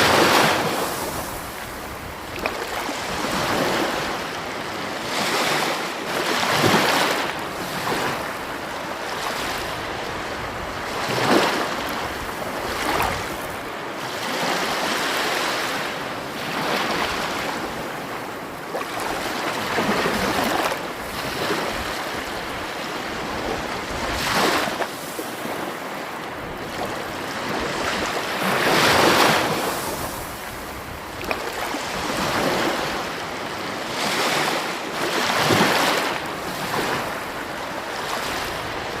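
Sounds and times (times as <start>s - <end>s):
sea waves breaking: 0.0s - 39.0s.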